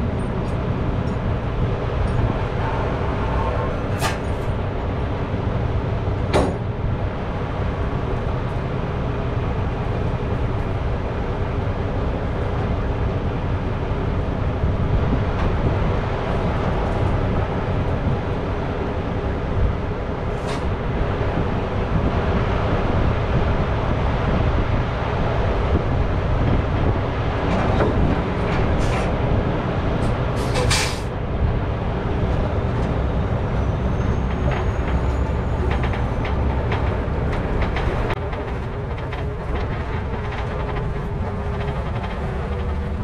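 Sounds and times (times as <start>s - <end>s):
diesel truck engine rumble: 0.0s - 43.0s
trailer clanks and rattles: 0.0s - 43.0s.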